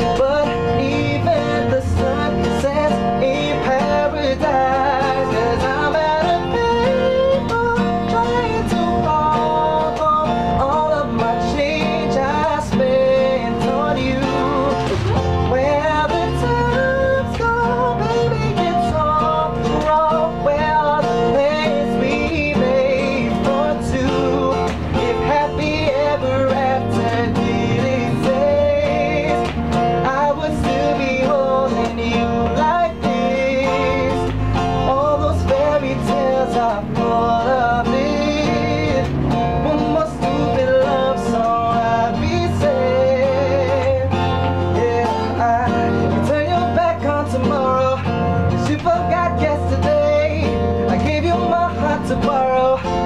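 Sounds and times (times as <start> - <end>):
guitar accompaniment: 0.0 - 53.0
man singing pop love song: 0.0 - 53.0.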